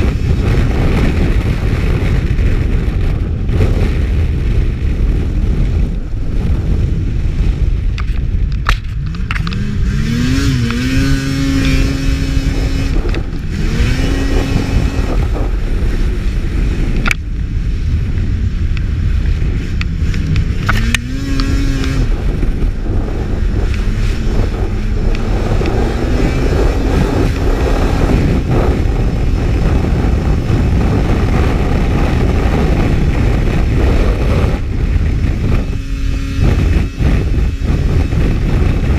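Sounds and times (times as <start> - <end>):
snowmobile engine: 0.0 - 38.9
wind rush and track noise: 0.0 - 38.9.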